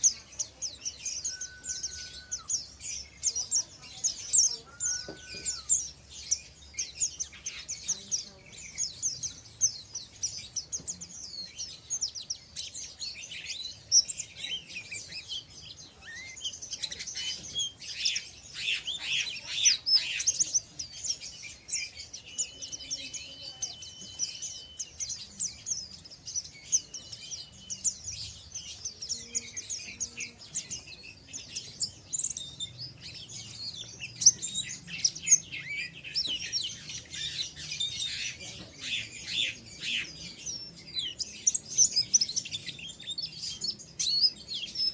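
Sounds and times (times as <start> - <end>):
birds twittering: 0.0 - 44.9.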